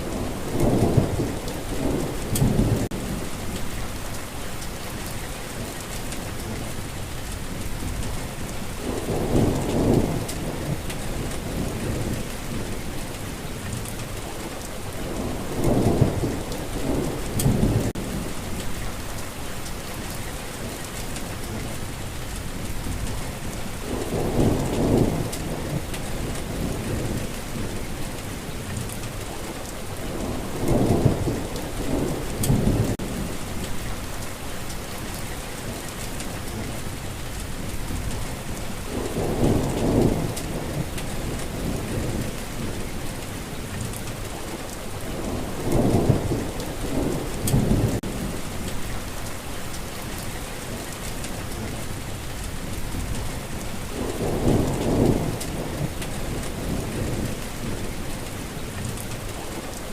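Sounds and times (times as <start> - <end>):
thunder rumbling: 0.0 - 5.1, 5.9 - 59.8
heavy rain falling: 0.0 - 59.9.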